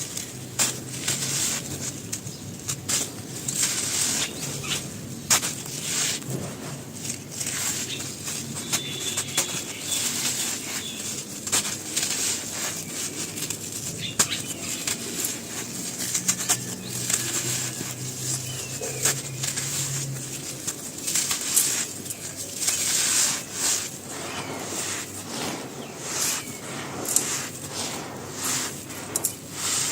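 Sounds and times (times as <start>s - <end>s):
dry material crunching: 0.0s - 29.9s.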